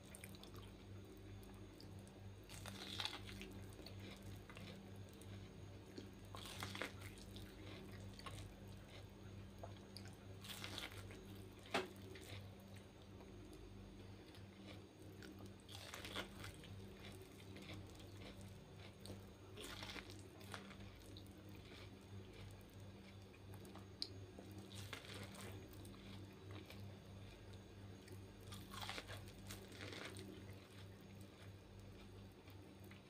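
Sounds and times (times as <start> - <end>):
chewing corn kernels: 0.0 - 33.0
steady low hum: 0.0 - 33.0.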